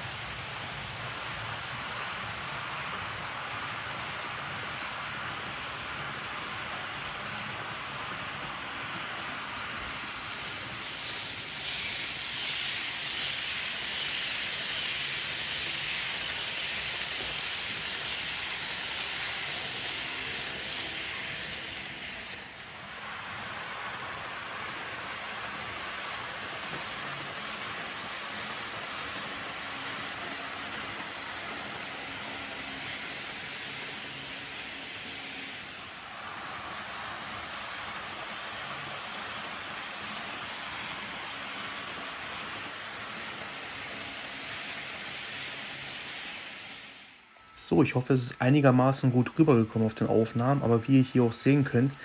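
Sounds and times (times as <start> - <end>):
model train wheels rolling: 0.0 - 52.0.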